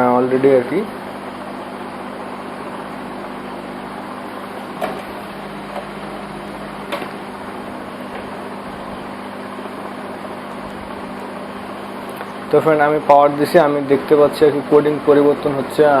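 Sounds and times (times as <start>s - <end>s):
computer fans whirring: 0.0s - 16.0s.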